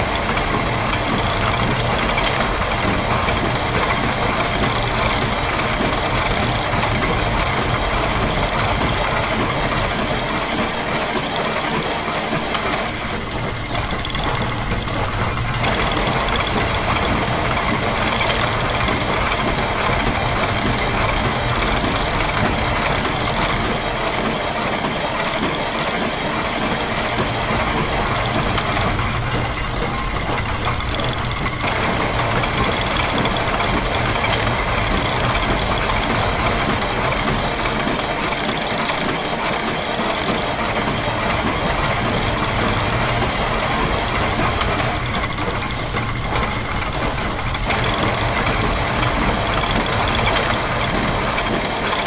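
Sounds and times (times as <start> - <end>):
gears and ratchets clattering: 0.0 - 52.0
low mechanical hum: 0.0 - 52.0.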